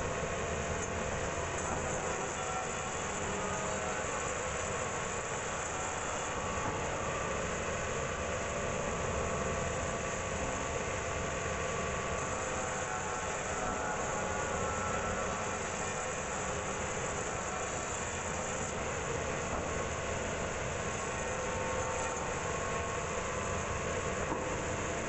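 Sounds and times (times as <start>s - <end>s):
band saw and engine droning: 0.0s - 25.0s.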